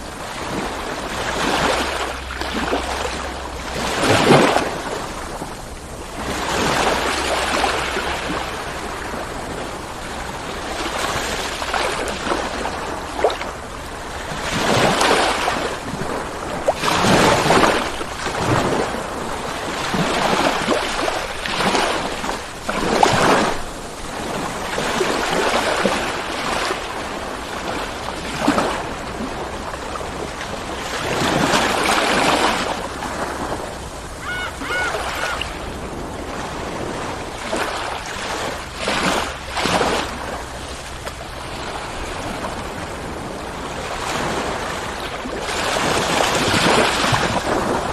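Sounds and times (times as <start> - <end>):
ocean waves breaking on shore: 0.0 - 47.9.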